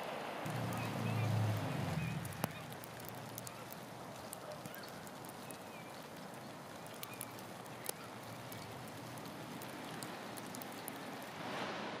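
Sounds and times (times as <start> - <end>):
light ticks of falling snow: 0.0 - 11.7
steady even hiss: 0.0 - 12.0.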